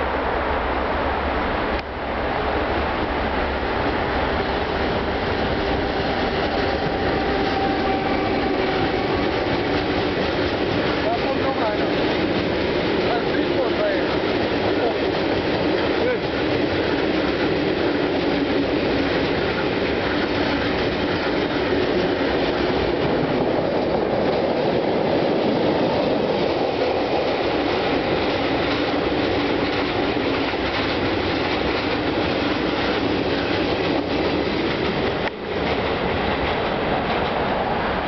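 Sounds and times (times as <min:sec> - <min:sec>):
freight train rumbling past: 0:00.0 - 0:38.0.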